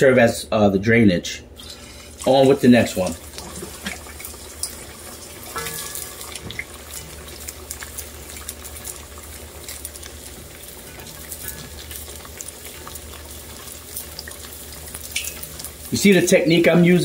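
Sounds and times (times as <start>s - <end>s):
oil sizzling and popping: 1.6s - 17.0s.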